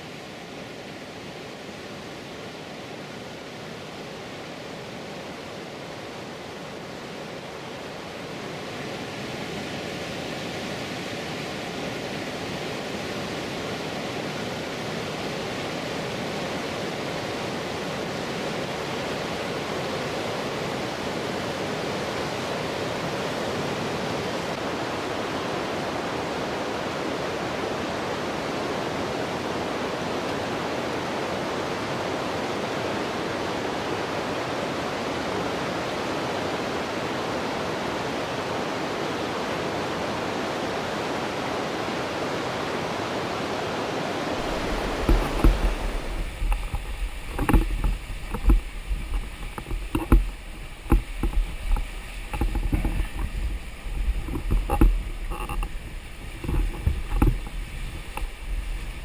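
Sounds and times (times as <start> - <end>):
whitewater rushing: 0.0 - 59.0.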